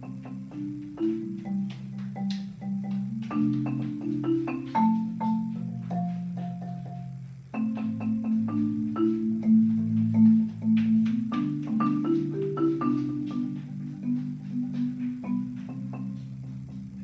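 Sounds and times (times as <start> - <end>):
marimba rolled chords: 0.0 - 17.0.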